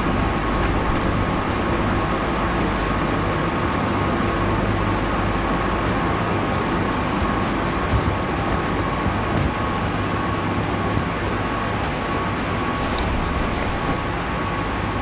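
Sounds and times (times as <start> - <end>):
machinery droning: 0.0 - 15.0.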